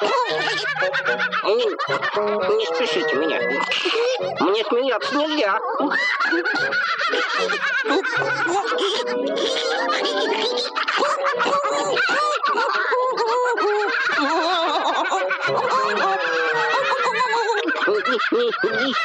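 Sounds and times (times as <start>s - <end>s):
cartoon music: 0.0s - 18.0s
cartoon frog voices giggling: 0.0s - 19.0s.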